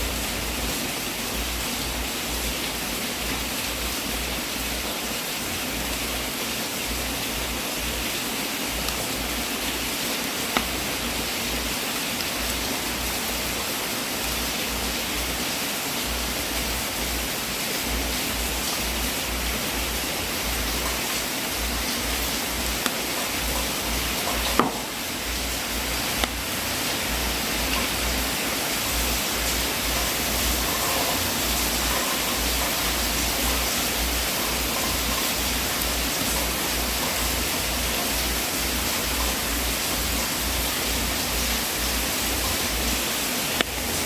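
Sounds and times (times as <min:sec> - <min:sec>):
wood fire hissing and crackling: 0:00.0 - 0:44.0.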